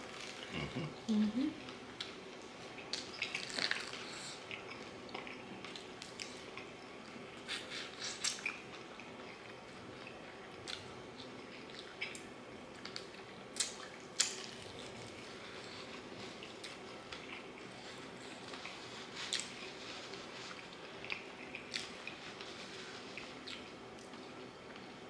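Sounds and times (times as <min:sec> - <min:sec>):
chewing crispy chicken: 0:00.0 - 0:25.0.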